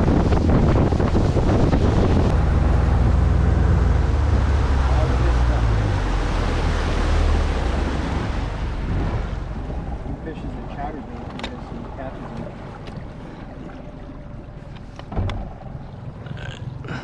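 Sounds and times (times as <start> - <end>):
wind buffeting microphone: 0.0 - 16.8
outboard motor running: 0.0 - 17.0
water rushing past hull: 0.0 - 17.0.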